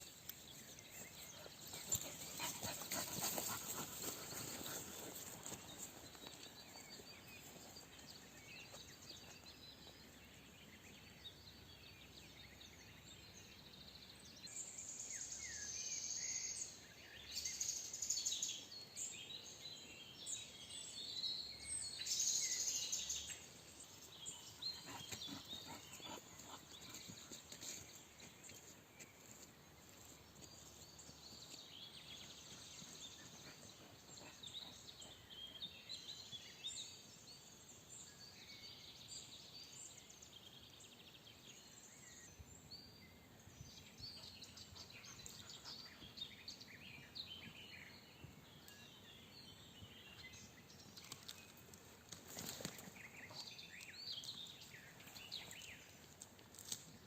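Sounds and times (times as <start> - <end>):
woodland birds singing: 0.0 - 57.0.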